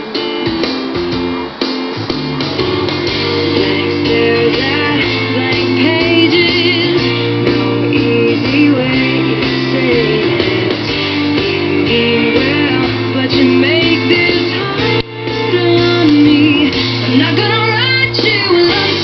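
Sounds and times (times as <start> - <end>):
pop-rock song through speakers: 0.0 - 19.0.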